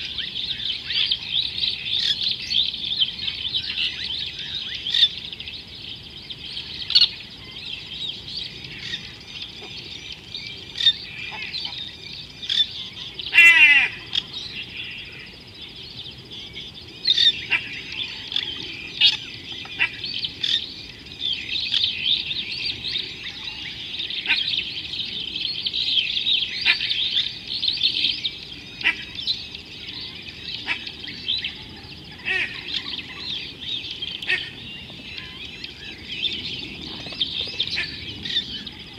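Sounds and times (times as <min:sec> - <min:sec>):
birds chirping and calling: 0:00.0 - 0:38.9.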